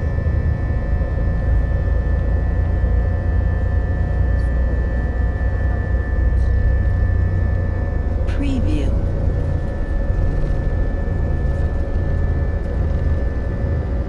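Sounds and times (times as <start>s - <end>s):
jet engine drone: 0.0s - 14.0s.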